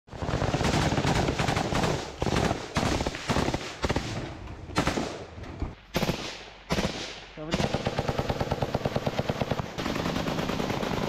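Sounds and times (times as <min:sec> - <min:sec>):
assault rifle automatic fire: 0:00.1 - 0:04.2, 0:05.9 - 0:11.0.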